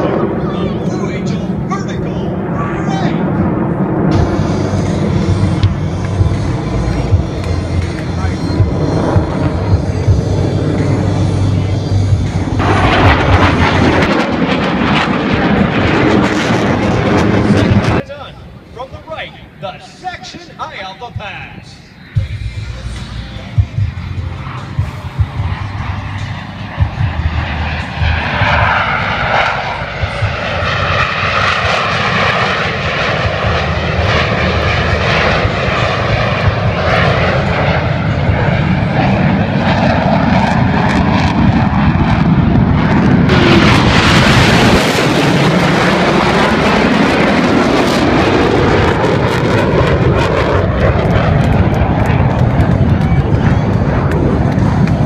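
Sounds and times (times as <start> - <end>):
jets flying past: 0.0 - 55.0.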